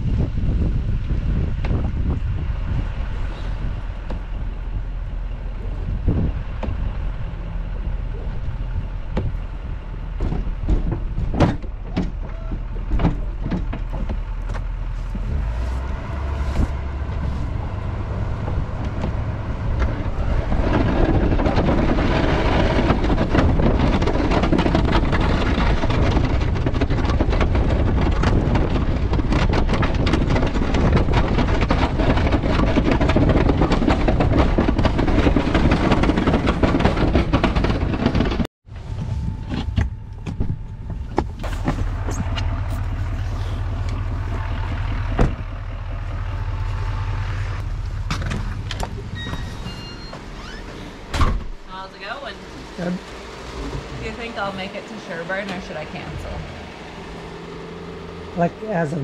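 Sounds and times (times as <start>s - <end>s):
vehicle engine running: 0.0s - 51.1s, 51.7s - 59.0s
knocks and clunks: 4.0s - 4.6s, 5.4s - 7.3s, 7.9s - 59.0s.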